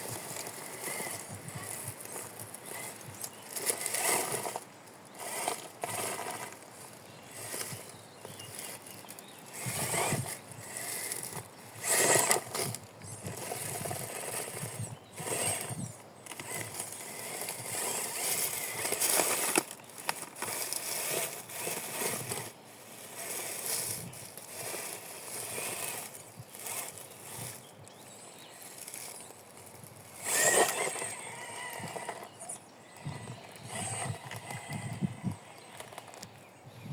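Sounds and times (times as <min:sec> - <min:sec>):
toy car crunching over ground: 0:00.0 - 0:36.7.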